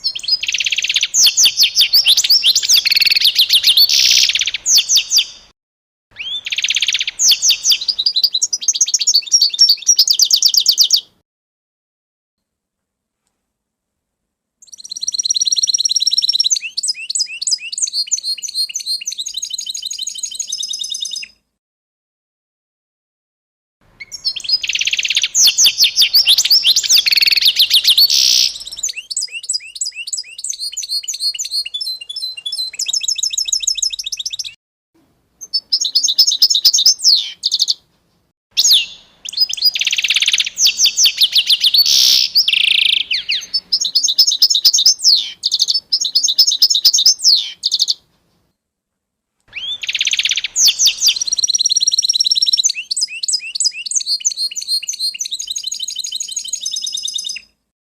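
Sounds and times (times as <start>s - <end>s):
songbirds chirping and trilling: 0.0s - 5.5s, 6.1s - 11.2s, 14.6s - 21.4s, 23.9s - 34.6s, 35.4s - 37.9s, 38.6s - 48.5s, 49.5s - 57.6s.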